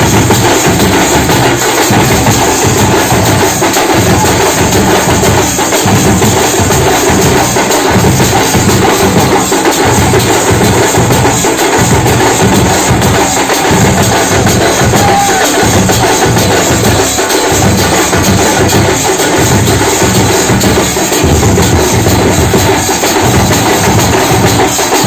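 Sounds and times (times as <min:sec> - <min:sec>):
drums beaten with sticks: 0:00.0 - 0:25.0.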